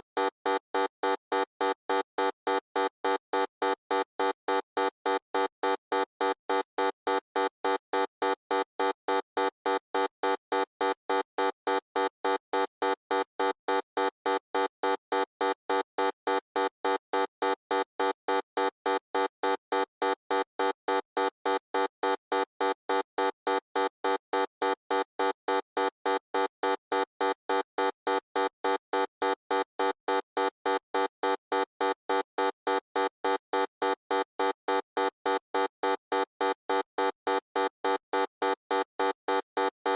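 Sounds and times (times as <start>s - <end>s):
electronic buzzer beeping: 0.5s - 39.9s.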